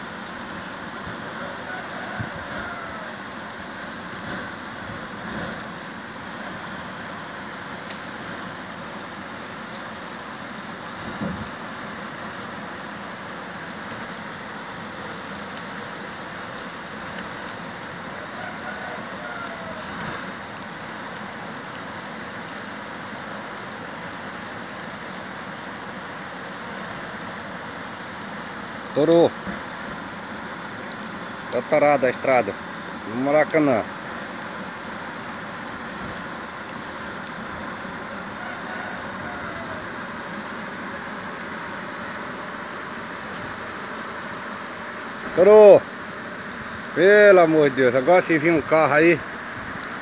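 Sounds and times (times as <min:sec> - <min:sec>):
heavy rain hissing: 0:00.0 - 0:50.0.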